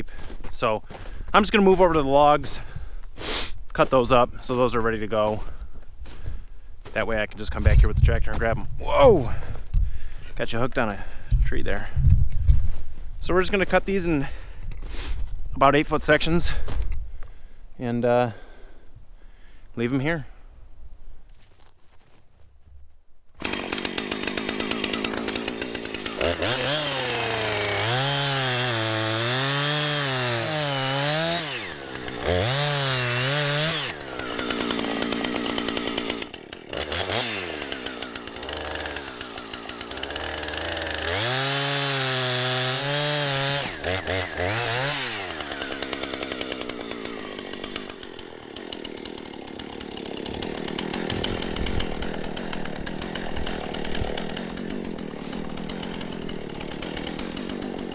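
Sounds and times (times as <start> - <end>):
chainsaw cutting logs: 0.0 - 15.3, 23.3 - 57.9.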